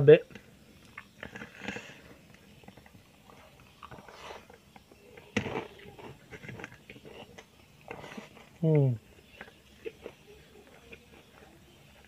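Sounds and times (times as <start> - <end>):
wet chewing with mouth clicks: 0.3 - 12.0.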